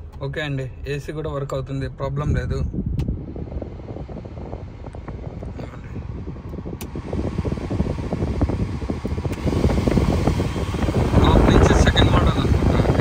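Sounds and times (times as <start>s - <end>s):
air conditioning blower rumble: 0.0s - 13.0s.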